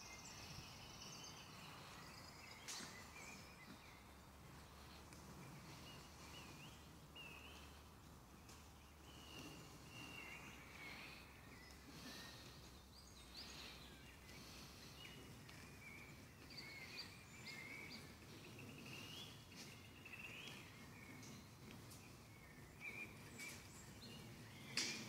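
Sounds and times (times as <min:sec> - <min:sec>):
low background noise: 0:00.0 - 0:25.0
songbirds chirping: 0:00.0 - 0:25.0.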